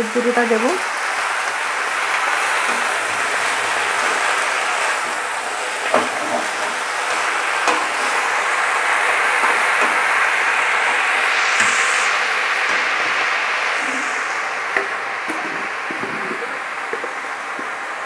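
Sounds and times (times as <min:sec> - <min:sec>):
spinach sizzling in a wok: 0:00.0 - 0:18.0.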